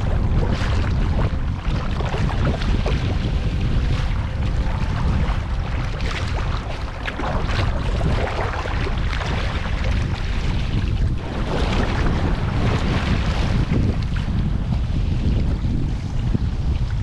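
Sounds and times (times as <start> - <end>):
low rumble: 0.0 - 17.0
paddle splashing in water: 0.0 - 17.0
waves slapping a kayak: 0.0 - 17.0
wind buffeting microphone: 0.0 - 17.0.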